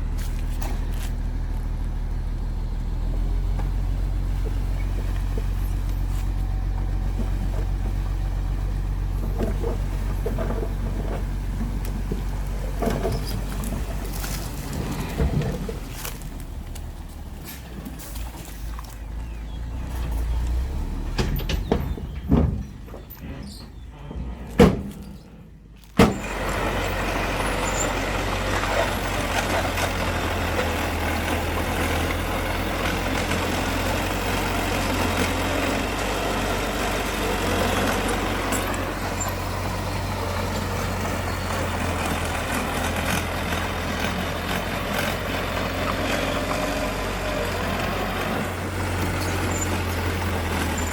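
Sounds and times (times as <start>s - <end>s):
diesel machinery engine running: 0.0s - 50.9s.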